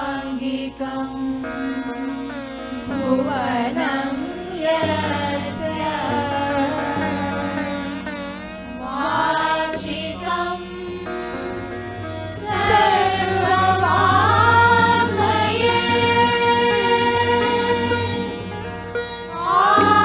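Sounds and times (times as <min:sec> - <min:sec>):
voices singing devotional chant: 0:00.0 - 0:20.0
steady drone: 0:00.2 - 0:20.0.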